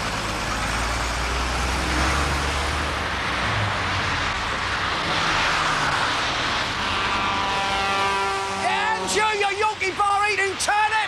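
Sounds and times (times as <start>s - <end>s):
tyres hissing on wet road: 0.0s - 9.2s
lorry engine rumbling: 0.0s - 10.7s.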